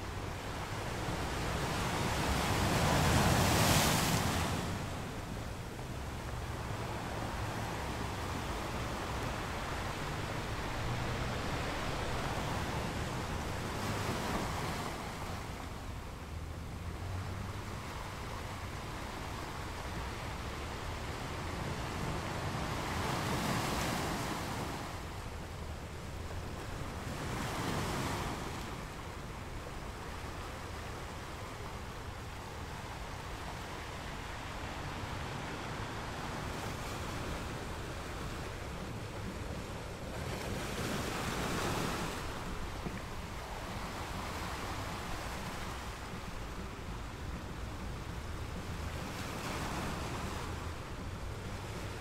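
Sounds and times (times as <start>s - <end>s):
ocean waves breaking: 0.0s - 52.0s.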